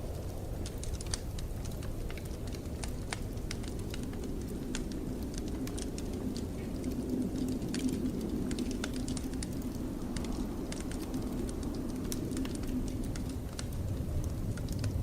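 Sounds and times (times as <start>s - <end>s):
low rumble of wind: 0.0s - 15.0s
wood fire crackling and popping: 0.0s - 15.0s.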